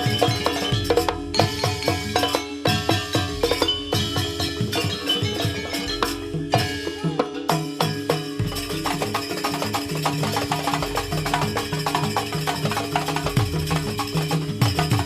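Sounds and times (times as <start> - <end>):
drums and struck percussion: 0.0 - 15.0.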